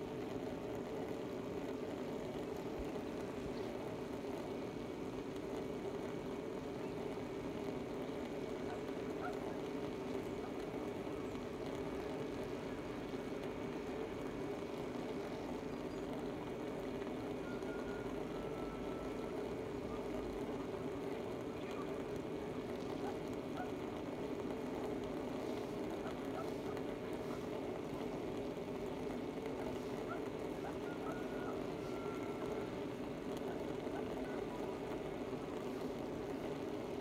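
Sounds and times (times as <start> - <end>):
distant town traffic hum: 0.0 - 37.0.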